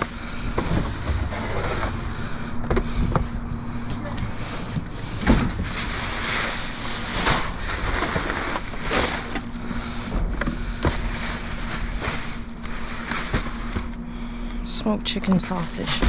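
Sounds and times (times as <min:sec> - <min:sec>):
trash bags and cardboard rustling: 0:00.0 - 0:16.0.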